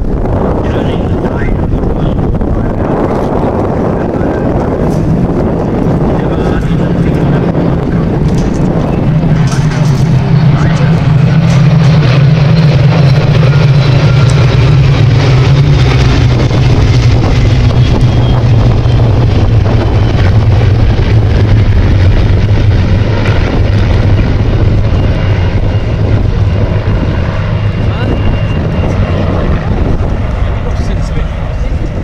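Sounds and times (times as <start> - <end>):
aircraft engines droning: 0.0 - 32.0.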